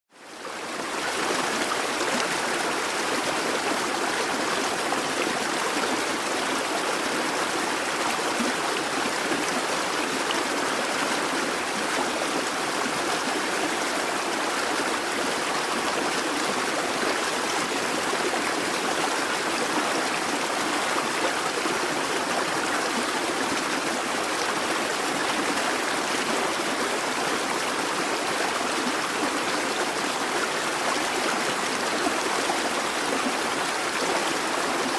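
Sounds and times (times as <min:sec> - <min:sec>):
brook babbling over stones: 0:00.1 - 0:34.9.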